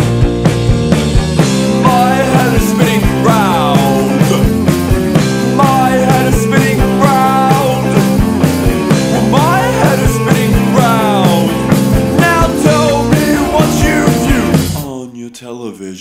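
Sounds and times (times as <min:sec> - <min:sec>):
rock band playing: 0:00.0 - 0:14.9.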